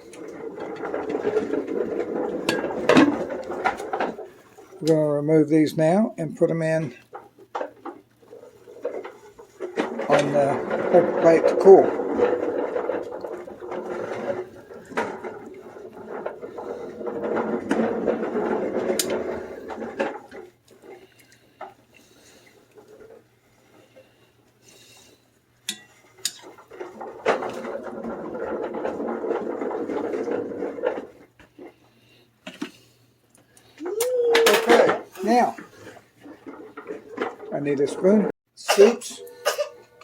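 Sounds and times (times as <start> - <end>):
rustling and sloshing: 0.0 - 6.0, 6.6 - 38.4.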